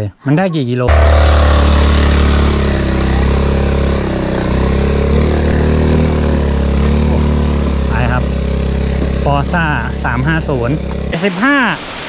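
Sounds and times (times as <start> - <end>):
scooter engine running: 0.9 - 11.2.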